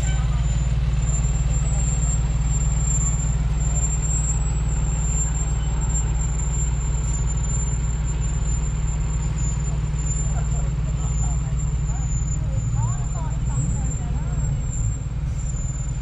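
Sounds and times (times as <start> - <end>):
diesel engine rumble: 0.0 - 16.0.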